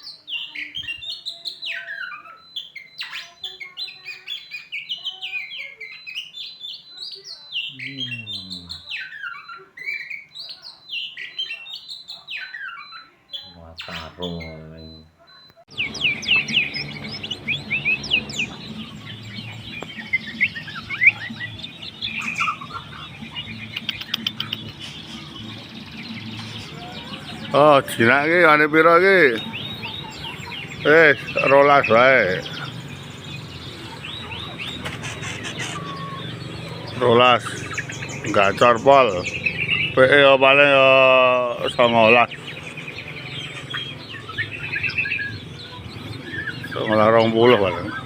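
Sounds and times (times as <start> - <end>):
songbird chirping and trilling: 0.0 - 48.0.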